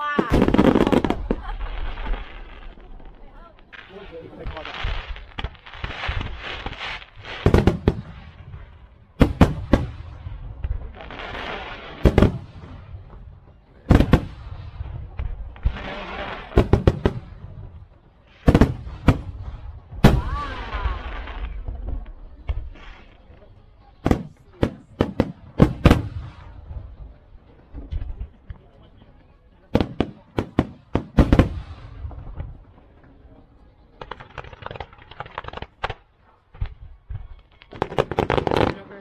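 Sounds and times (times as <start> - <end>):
people's voices: 0.0 - 6.1, 7.6 - 35.2
fireworks bangs: 0.0 - 39.0.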